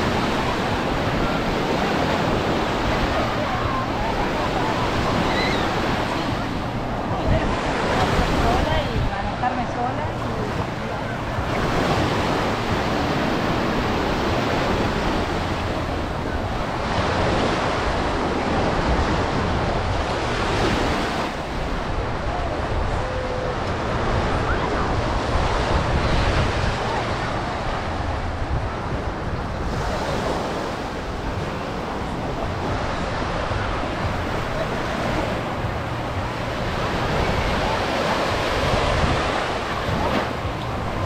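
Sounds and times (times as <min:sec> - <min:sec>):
surf breaking on shore: 0:00.0 - 0:41.0
wind rumbling on microphone: 0:00.0 - 0:41.0.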